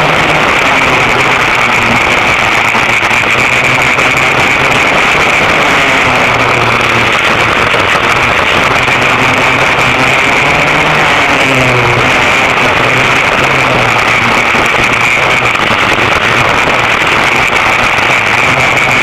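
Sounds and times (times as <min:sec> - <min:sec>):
racing kart engines buzzing: 0:00.0 - 0:19.0.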